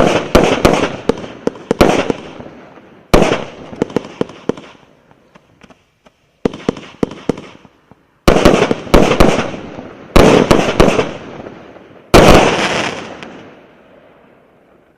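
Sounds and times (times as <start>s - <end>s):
firework volleys banging and crackling: 0.0s - 14.9s.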